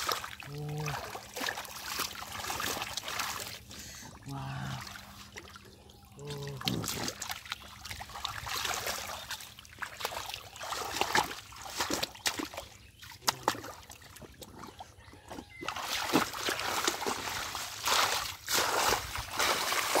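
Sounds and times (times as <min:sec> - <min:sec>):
hands rummaging through water plants: 0:00.0 - 0:20.0
splashing in shallow water: 0:00.0 - 0:20.0.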